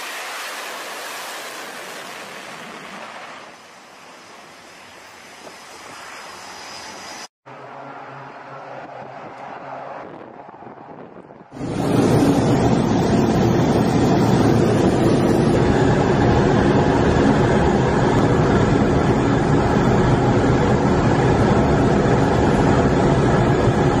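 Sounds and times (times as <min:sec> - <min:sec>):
jet engine and airflow roar: 0:00.0 - 0:24.0.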